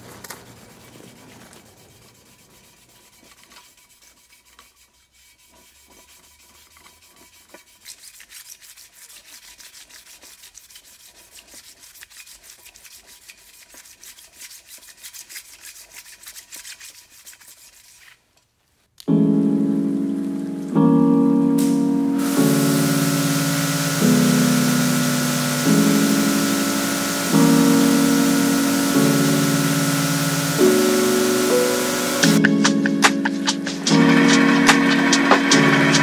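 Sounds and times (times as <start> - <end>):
sandpaper rubbing on metal wheel: 0.1 - 18.3, 21.6 - 36.0.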